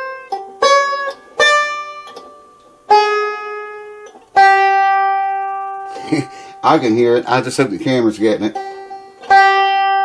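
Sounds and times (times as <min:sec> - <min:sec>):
banjo string plucked: 0:00.0 - 0:10.0.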